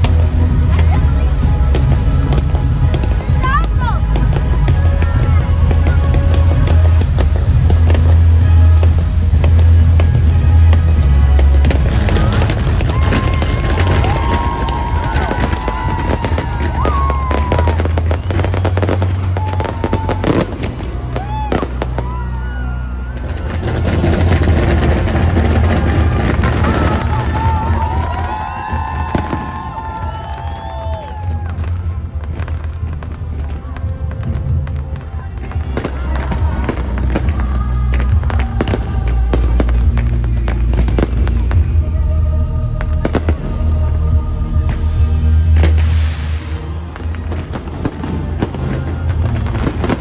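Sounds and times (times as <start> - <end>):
loud music with heavy bass: 0.0 - 34.7, 35.6 - 50.0
deep continuous rumble: 0.0 - 50.0
fireworks crackling and bangs: 0.0 - 50.0.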